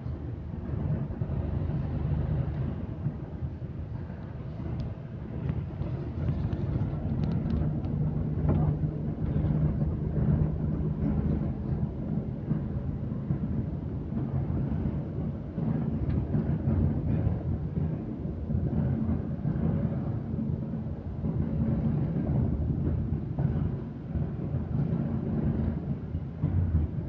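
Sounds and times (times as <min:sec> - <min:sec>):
vehicle rumble from inside: 0:04.1 - 0:27.0.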